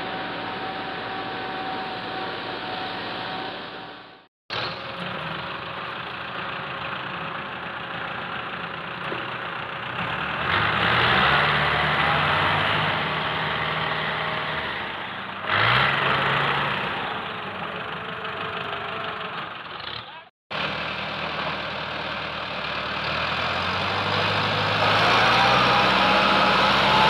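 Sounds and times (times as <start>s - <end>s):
tractor diesel engine revving: 0.0s - 27.0s.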